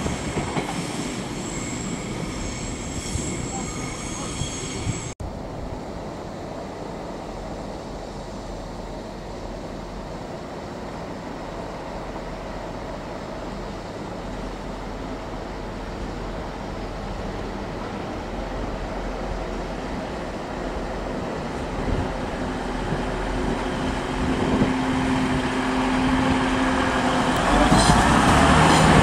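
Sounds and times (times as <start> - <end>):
diesel train engine rumble: 0.0 - 29.0.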